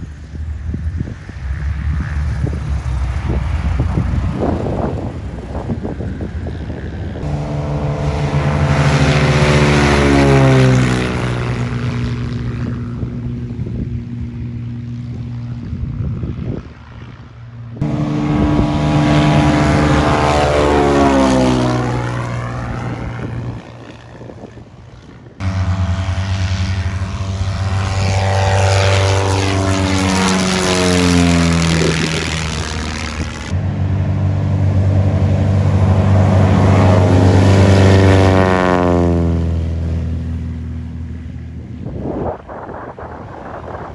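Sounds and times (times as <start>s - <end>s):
propeller airplanes passing by: 0.0s - 43.9s.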